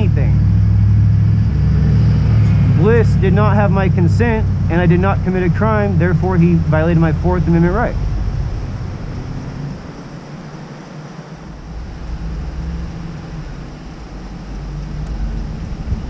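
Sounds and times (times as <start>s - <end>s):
faint steady hum: 0.0s - 16.0s
wind buffeting microphone: 0.0s - 16.0s.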